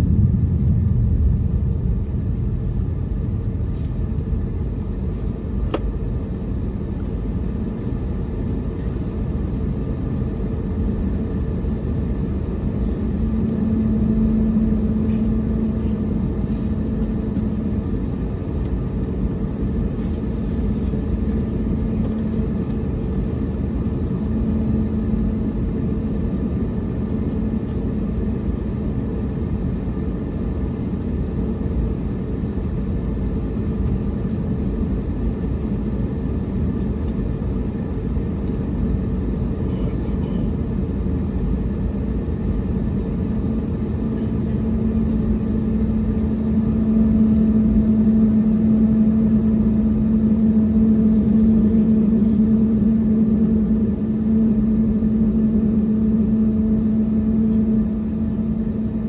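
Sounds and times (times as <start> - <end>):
low drone: 0.0 - 39.5, 41.6 - 59.0
faint steady whine: 0.0 - 59.0
jet engines idling: 0.0 - 59.0.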